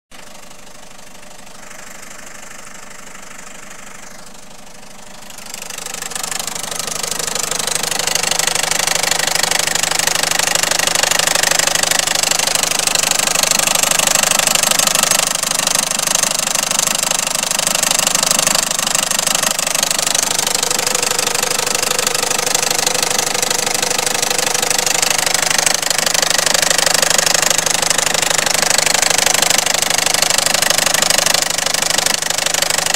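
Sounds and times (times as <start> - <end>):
diesel engine running: 0.2 - 32.9.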